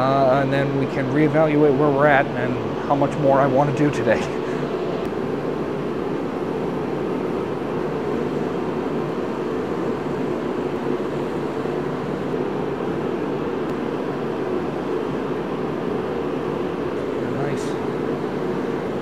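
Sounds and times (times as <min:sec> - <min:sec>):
heater blowing hum: 0:00.0 - 0:19.0.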